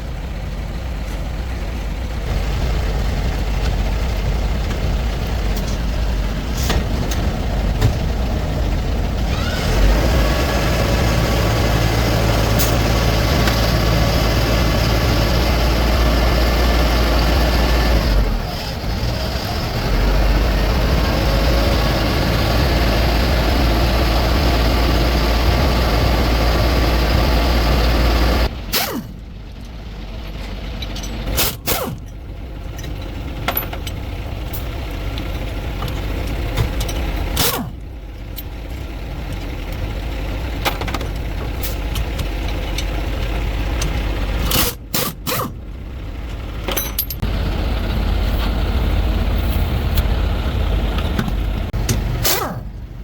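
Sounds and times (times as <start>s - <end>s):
truck engine drone: 0.0s - 53.0s.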